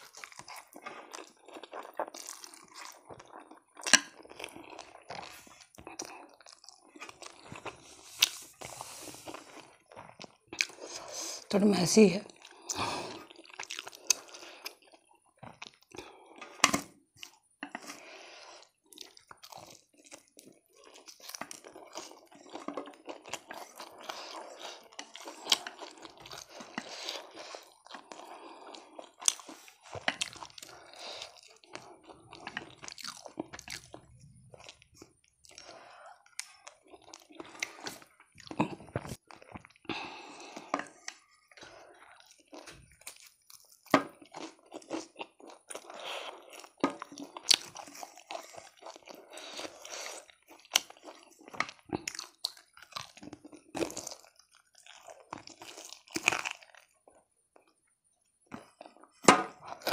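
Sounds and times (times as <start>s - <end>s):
crunching and chewing food: 0.0s - 11.5s, 12.2s - 59.9s.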